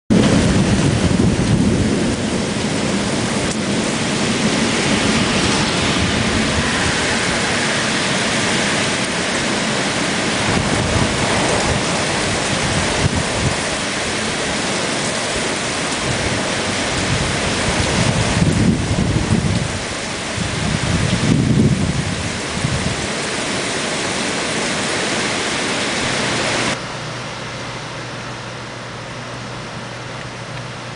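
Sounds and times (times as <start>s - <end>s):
low thunder rumbling: 0.1s - 25.2s
heavy rain pouring: 0.1s - 30.9s.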